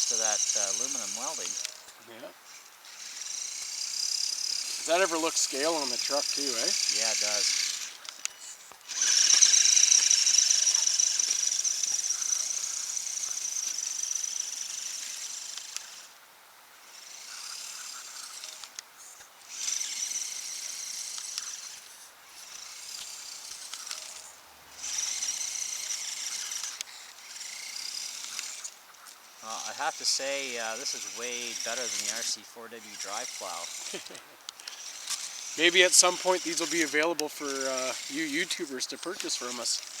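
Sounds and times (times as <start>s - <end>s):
electric motor whining: 0.0s - 40.0s.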